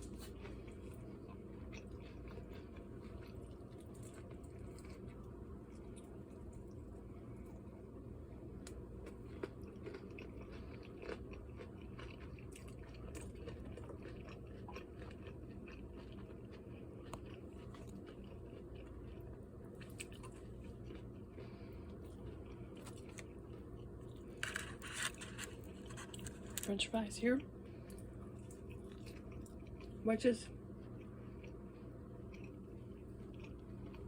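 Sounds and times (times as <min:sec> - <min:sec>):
person chewing crunchy food: 0:00.0 - 0:08.0, 0:08.6 - 0:26.8, 0:27.5 - 0:30.0, 0:30.6 - 0:34.0.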